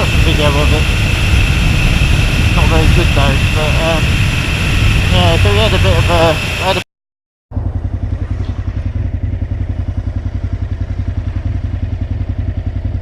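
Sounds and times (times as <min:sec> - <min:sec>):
motorcycle engine throbbing: 0:00.0 - 0:06.8, 0:07.5 - 0:13.0.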